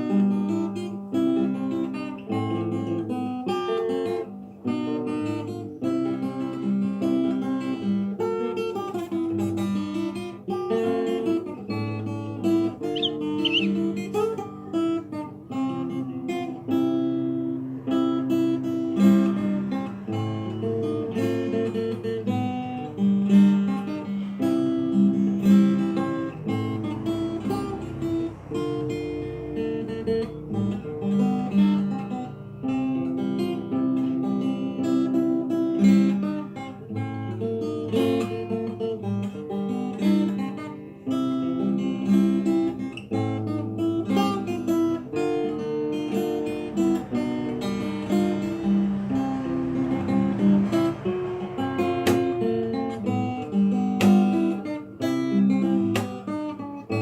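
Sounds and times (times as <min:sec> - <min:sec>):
fingerstyle acoustic guitar: 0:00.0 - 0:57.0.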